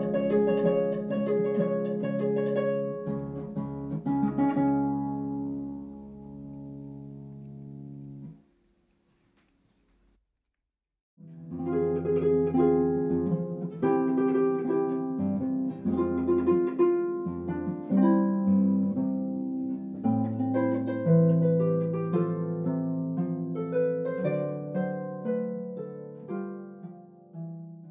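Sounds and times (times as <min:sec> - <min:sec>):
solo harp music: 0:00.0 - 0:08.4, 0:11.2 - 0:27.9.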